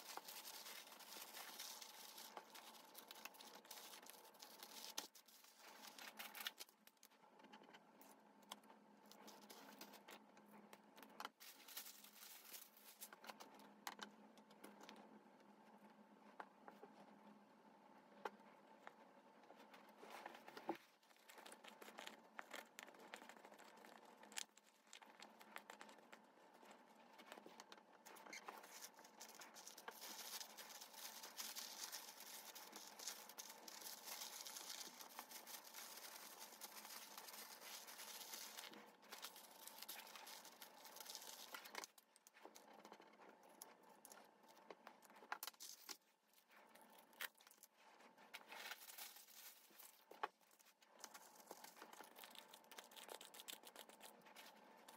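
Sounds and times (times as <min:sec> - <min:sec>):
paper crinkling and rustling: 0:00.0 - 0:07.1, 0:09.0 - 0:10.2, 0:11.1 - 0:13.6, 0:19.6 - 0:54.9.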